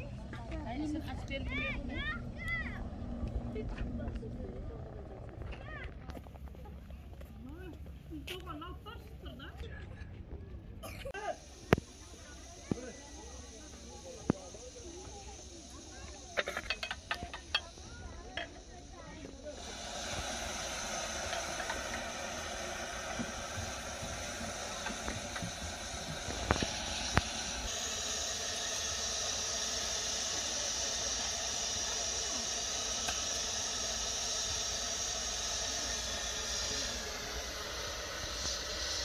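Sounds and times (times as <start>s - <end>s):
gas burner hissing: 0.0s - 6.2s, 10.8s - 39.0s.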